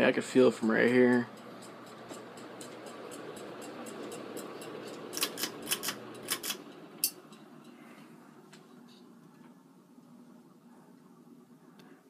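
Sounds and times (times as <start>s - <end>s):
ceiling fan whirring: 0.0s - 12.0s.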